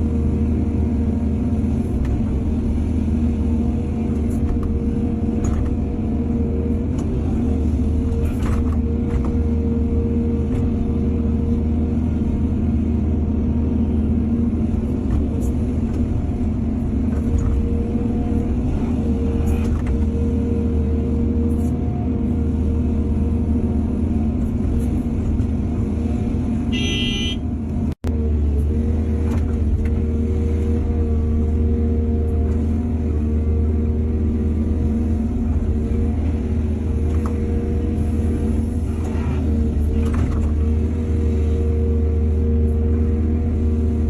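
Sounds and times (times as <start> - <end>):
constant whine: 0.0 - 44.0
excavator diesel engine running: 0.0 - 44.0.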